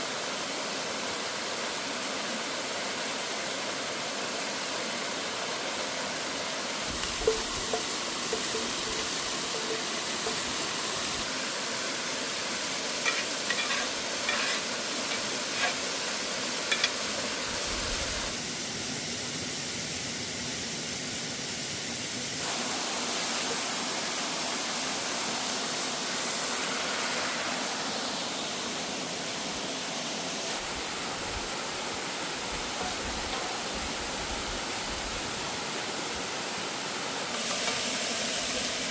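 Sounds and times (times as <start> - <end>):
waterfall rushing: 0.0 - 38.9
food sizzling in a pan: 6.4 - 38.9.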